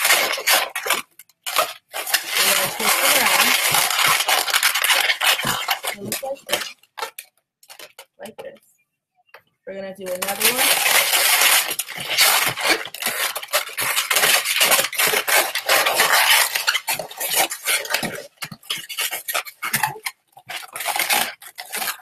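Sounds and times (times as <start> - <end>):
balloons rubbing and creaking: 0.0 - 8.6, 10.0 - 22.0.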